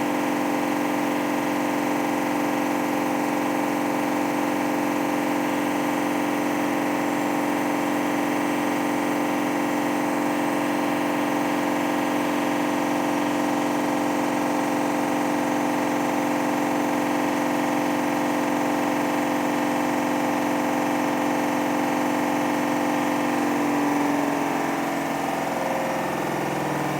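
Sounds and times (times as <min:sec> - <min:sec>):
washing machine spin hum: 0:00.0 - 0:26.9.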